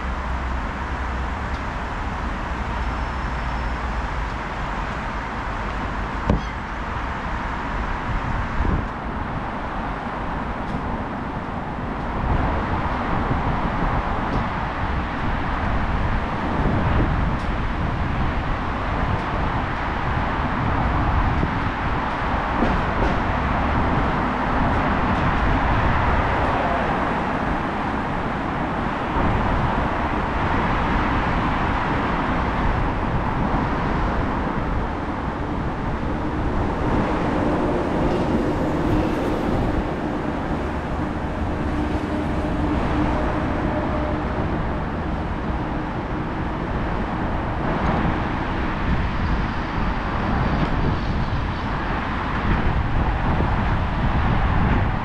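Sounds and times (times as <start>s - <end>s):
engine hum: 0.0s - 55.0s
low traffic rumble: 0.0s - 55.0s
passing cars: 0.0s - 55.0s.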